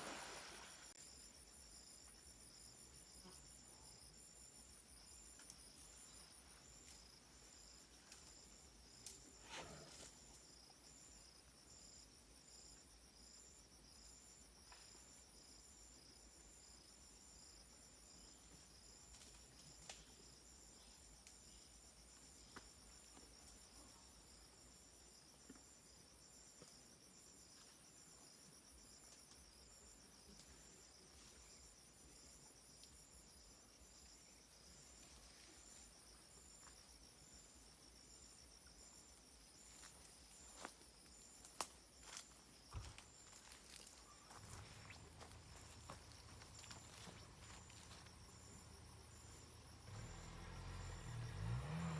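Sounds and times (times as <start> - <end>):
insects trilling: 0.0 - 51.9
rustle: 0.0 - 51.9.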